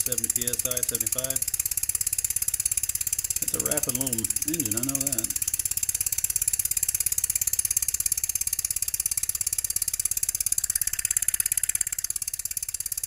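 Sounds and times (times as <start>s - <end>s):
steam engine exhaust beats: 0.0s - 13.0s.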